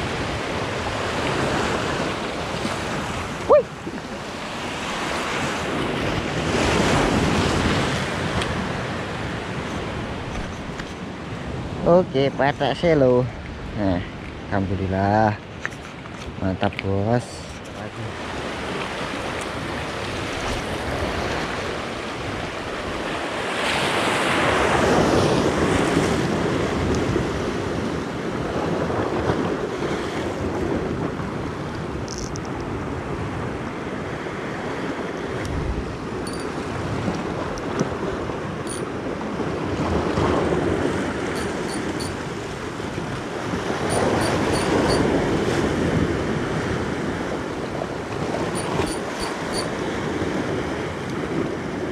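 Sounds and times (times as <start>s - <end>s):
waves breaking on rocks: 0.0s - 13.8s, 16.0s - 51.9s.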